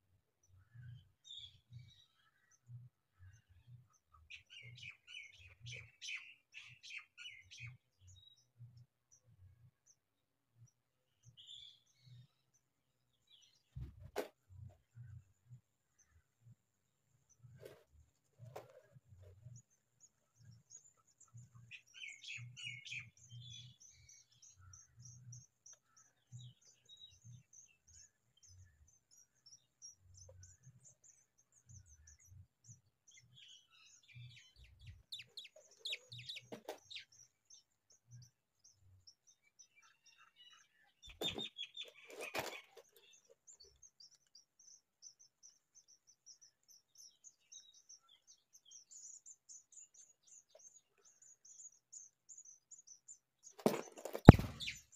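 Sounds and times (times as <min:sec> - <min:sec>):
sparrow chirps: 0:00.4 - 0:16.6, 0:17.2 - 0:54.9.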